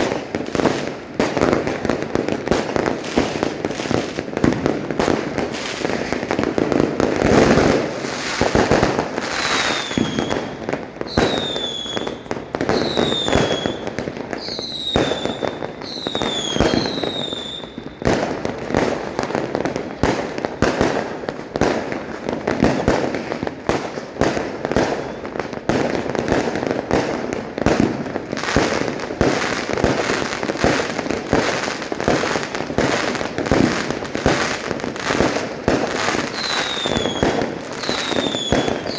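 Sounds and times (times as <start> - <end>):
fireworks crackling and banging: 0.0 - 38.9
whistling fireworks: 0.0 - 38.9.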